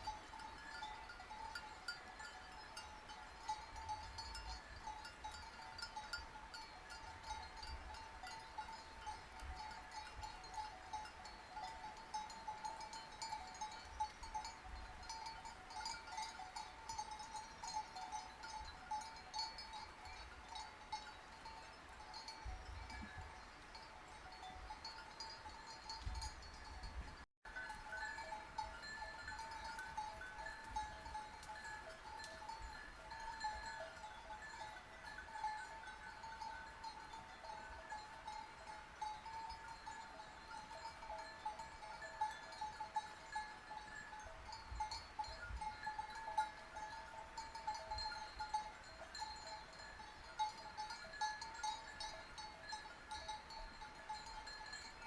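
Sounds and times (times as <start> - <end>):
sheep bells clanking: 0.0 - 55.0.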